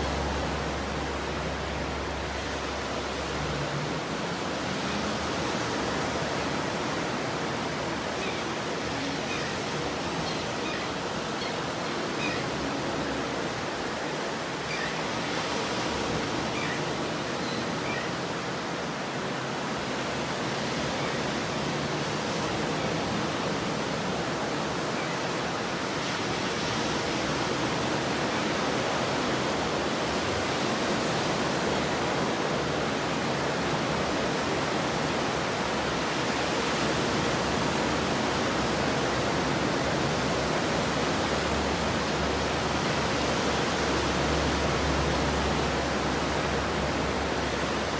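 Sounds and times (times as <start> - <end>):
ocean surf washing onto beach: 0.0 - 47.9.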